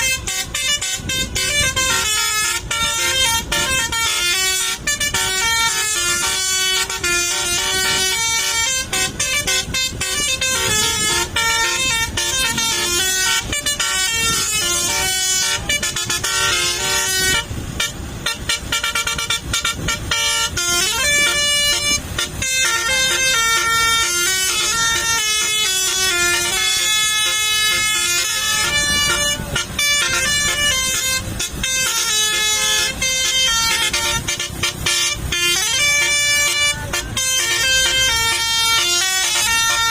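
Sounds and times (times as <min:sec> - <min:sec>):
bus musical horn melody: 0:00.0 - 0:39.9.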